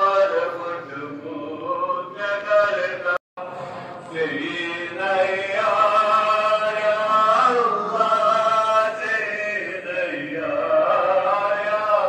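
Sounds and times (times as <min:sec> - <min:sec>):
men chanting: 0:00.0 - 0:12.0.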